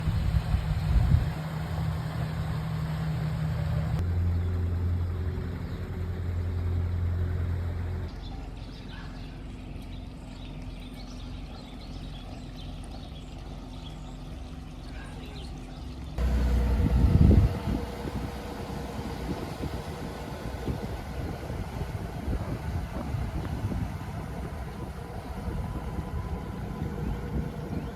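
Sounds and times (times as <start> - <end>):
low engine hum: 0.0 - 27.9.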